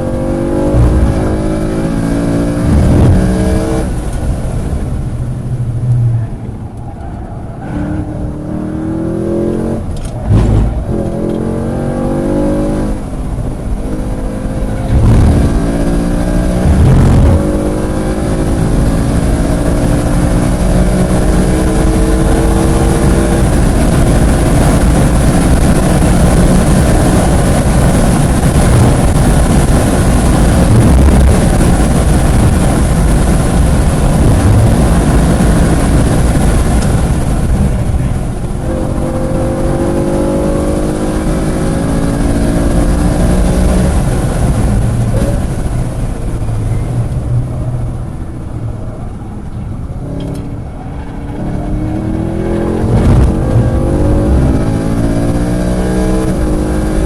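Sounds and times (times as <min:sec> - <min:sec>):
race car engine at high revs: 0:00.0 - 0:57.0
road noise: 0:00.0 - 0:57.0
wind noise: 0:00.0 - 0:57.0.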